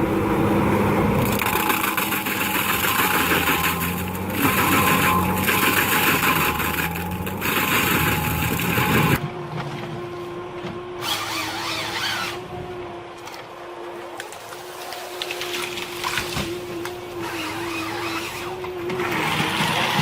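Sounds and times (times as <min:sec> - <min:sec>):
machine engine running: 0:00.0 - 0:20.0
quieter machine hum: 0:00.0 - 0:20.0.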